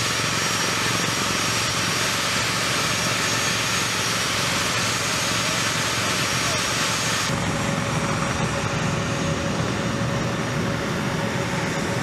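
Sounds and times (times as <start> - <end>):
machinery engine running: 0.0 - 12.0.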